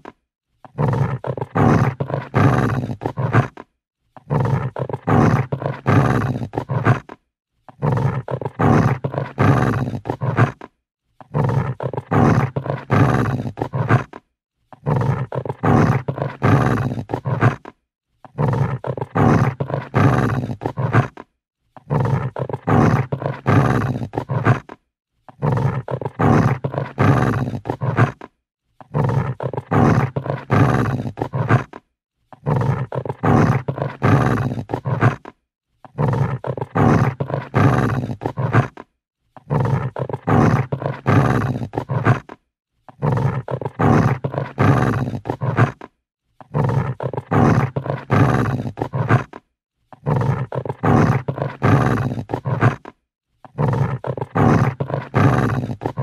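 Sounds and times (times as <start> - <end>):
dog growling: 0.0 - 56.0.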